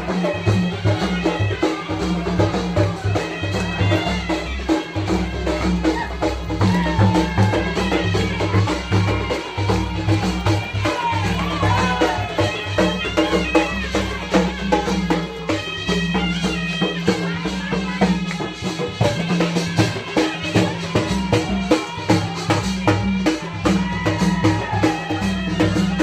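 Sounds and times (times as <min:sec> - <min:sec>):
drums beating fast rhythm: 0:00.0 - 0:26.0
shehnai melody: 0:00.0 - 0:26.0.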